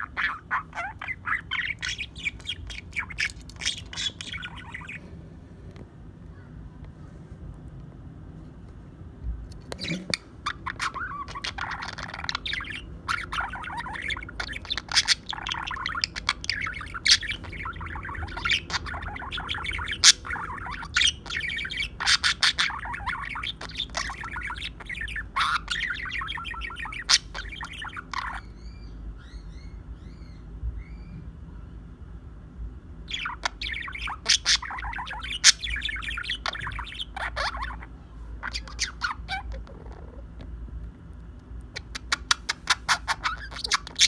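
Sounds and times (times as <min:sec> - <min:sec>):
budgerigar warbling and chirping: 0:00.0 - 0:05.1, 0:09.8 - 0:31.2, 0:33.0 - 0:40.6, 0:41.6 - 0:44.0.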